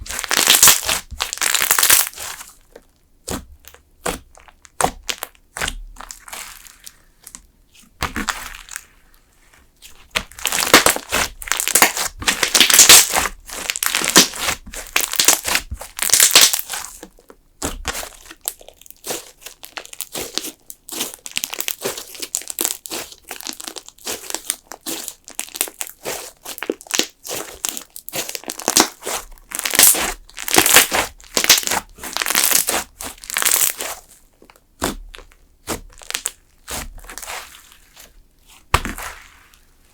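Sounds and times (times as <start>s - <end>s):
slime squeezed crackling and popping: 0.0s - 7.4s, 10.0s - 38.0s.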